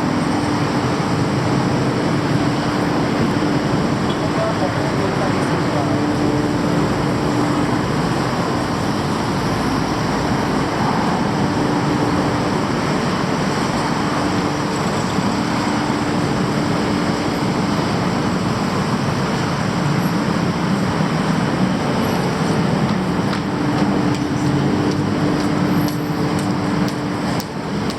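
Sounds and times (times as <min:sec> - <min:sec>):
street traffic: 0:00.0 - 0:27.9.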